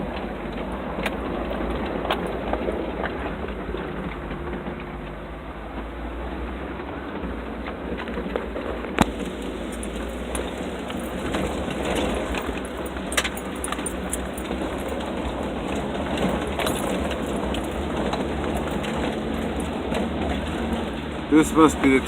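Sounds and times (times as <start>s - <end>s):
vehicle driving over rough ground: 0.0s - 22.0s.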